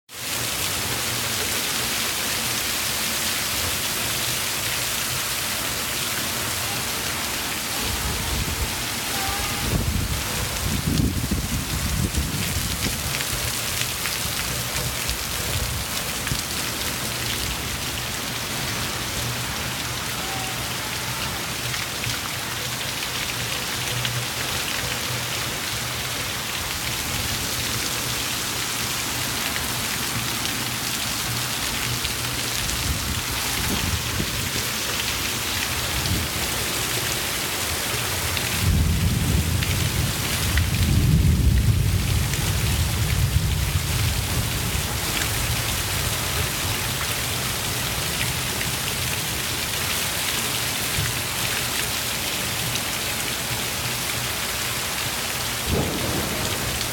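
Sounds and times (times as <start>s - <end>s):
water pouring off roof: 0.1s - 56.9s
heavy rain hissing: 0.2s - 56.9s.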